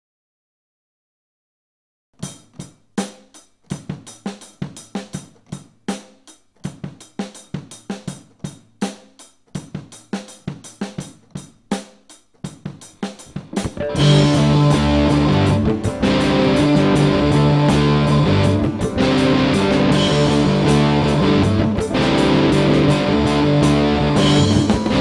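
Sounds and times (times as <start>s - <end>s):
rock drum beat: 2.2s - 25.0s.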